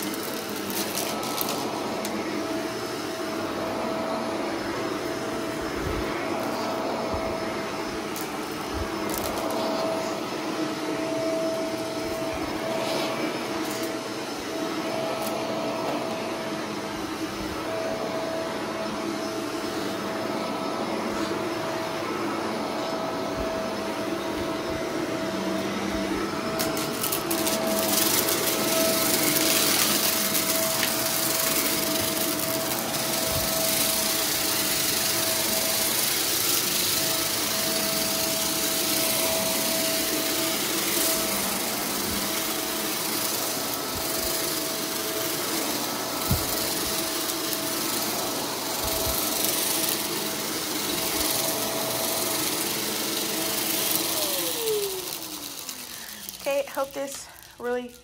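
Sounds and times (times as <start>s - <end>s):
vacuum cleaner running over carpet: 0.0s - 58.0s.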